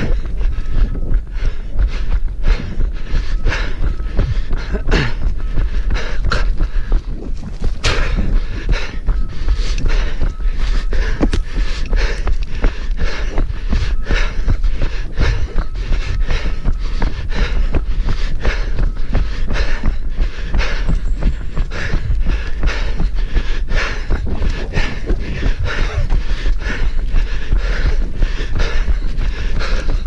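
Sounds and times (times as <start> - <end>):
rhythmic footfalls: 0.0 - 30.0
runner breathing hard: 0.0 - 30.0.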